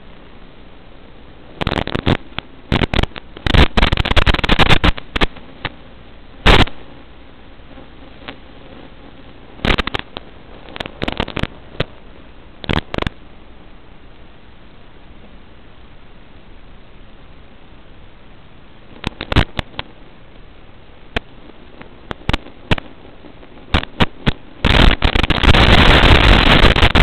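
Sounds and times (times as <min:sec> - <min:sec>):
crackling static: 0:00.0 - 0:27.0
steady hiss: 0:00.0 - 0:27.0.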